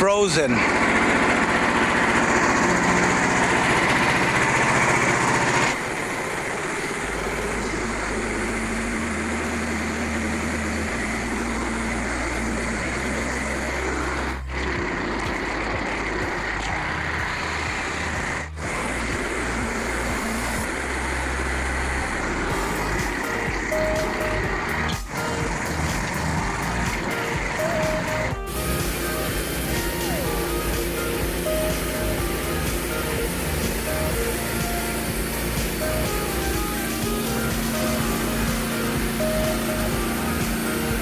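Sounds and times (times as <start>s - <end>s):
bandsaw sawmill cutting log: 0.0s - 41.0s.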